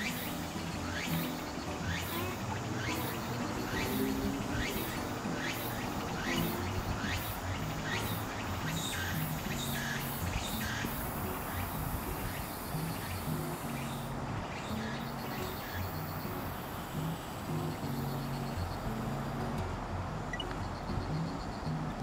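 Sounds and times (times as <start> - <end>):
cicada buzzing calls: 0.0 - 19.6
low background music: 0.0 - 22.0.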